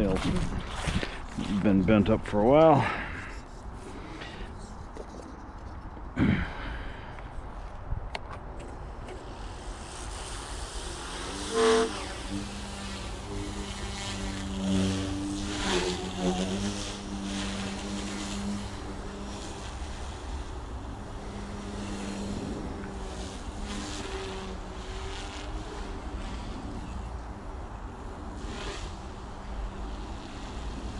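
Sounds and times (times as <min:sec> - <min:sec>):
model helicopter rotor hum: 0:00.0 - 0:07.6, 0:08.4 - 0:30.9.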